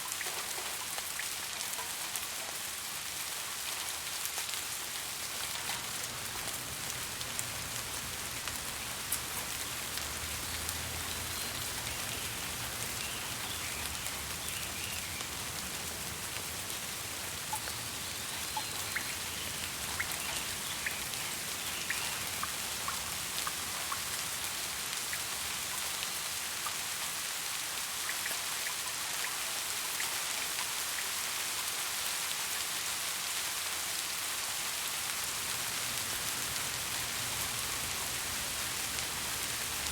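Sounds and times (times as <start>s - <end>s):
raindrops ticking on hard surface: 0.0s - 2.8s, 3.8s - 27.1s, 28.0s - 31.2s, 35.0s - 39.9s
steady rain hiss: 0.0s - 39.9s.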